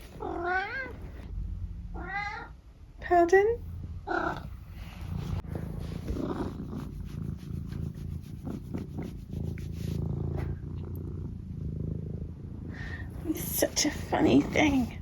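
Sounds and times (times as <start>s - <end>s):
cat purring: 0.0s - 2.5s, 3.5s - 15.0s.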